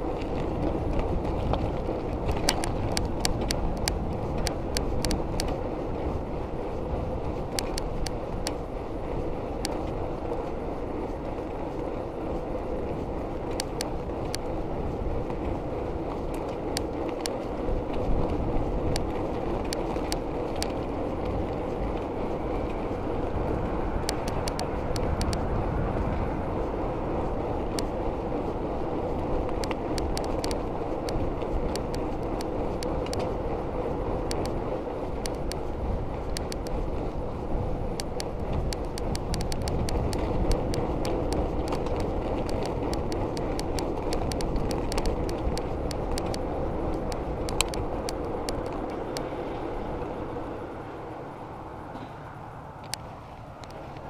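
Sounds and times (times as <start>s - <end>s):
bicycle clicks and rattles: 0.0s - 52.2s, 52.8s - 54.0s
tyre and wind rush: 0.0s - 52.4s.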